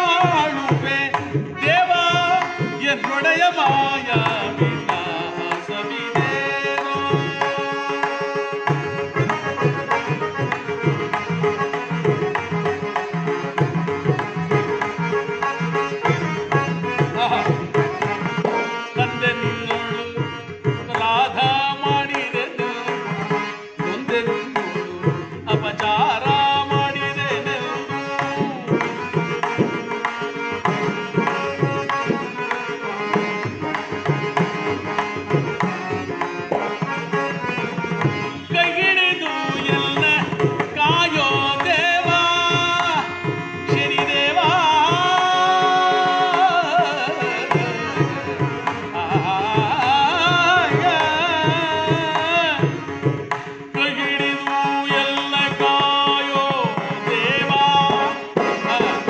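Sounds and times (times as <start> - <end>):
harmonium tones: 0.0 - 59.0
man singing: 0.0 - 59.0.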